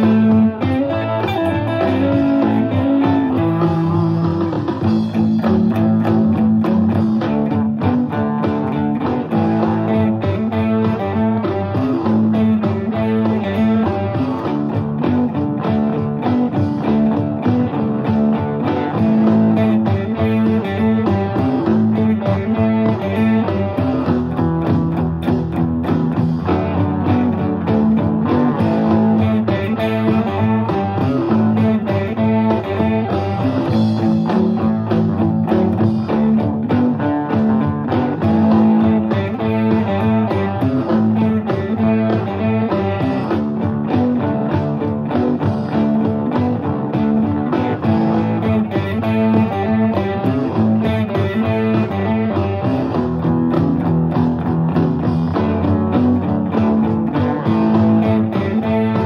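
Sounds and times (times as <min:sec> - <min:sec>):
electric guitar picked notes: 0:00.0 - 0:59.0.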